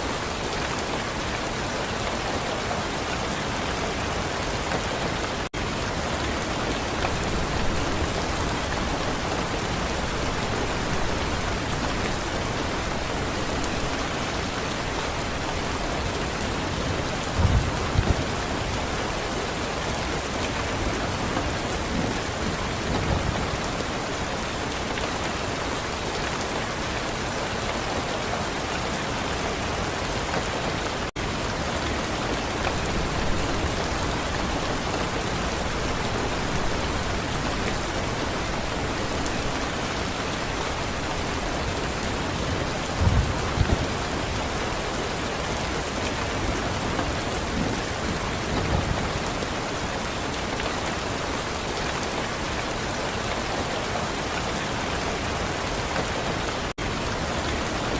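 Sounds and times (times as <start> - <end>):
steady rain: 0.0 - 57.9.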